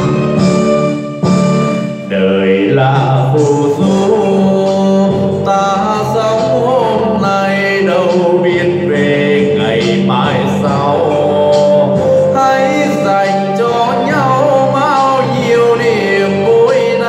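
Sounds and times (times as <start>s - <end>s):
karaoke backing music: 0.0s - 17.0s
man singing into microphone: 2.0s - 17.0s.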